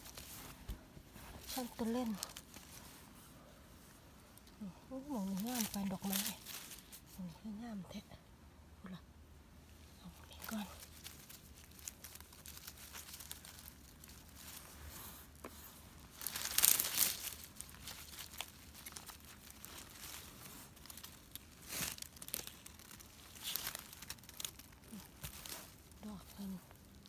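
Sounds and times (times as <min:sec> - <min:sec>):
leaves and twigs rustling: 0:00.0 - 0:07.6, 0:09.7 - 0:27.0.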